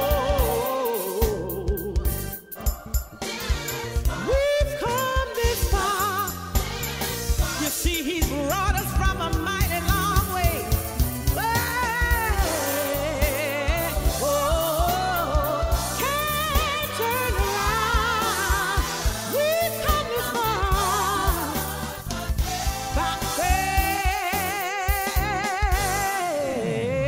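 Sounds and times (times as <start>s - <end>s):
band with steady drum beat: 0.0s - 26.2s
person singing gospel: 0.0s - 27.0s.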